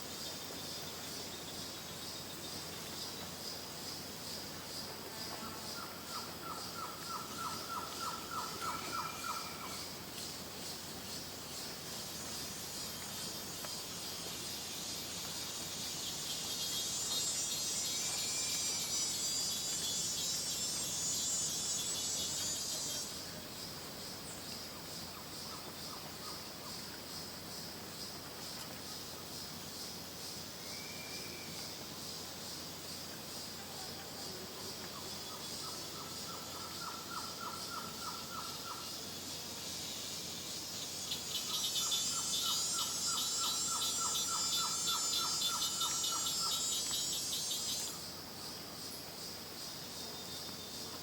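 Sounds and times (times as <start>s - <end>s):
high insect buzz: 0.0s - 33.6s, 35.0s - 51.0s
pulsing insect chorus: 0.0s - 51.0s.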